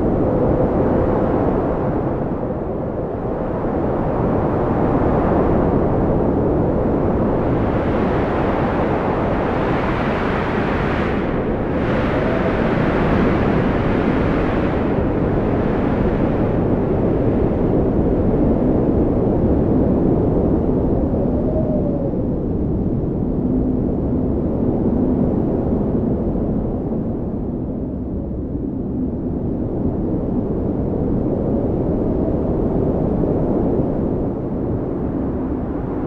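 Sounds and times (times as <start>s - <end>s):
strong wind blowing: 0.0s - 36.0s.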